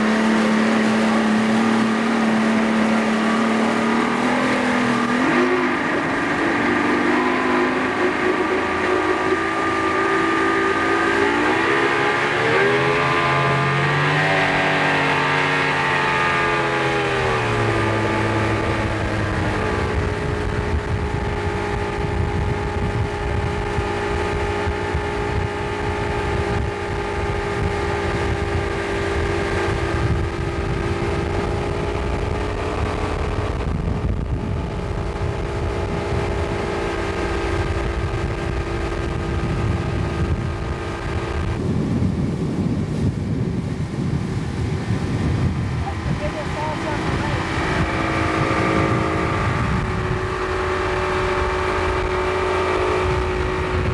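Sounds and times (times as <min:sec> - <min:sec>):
outboard motor speedboat: 0:00.0 - 0:53.9.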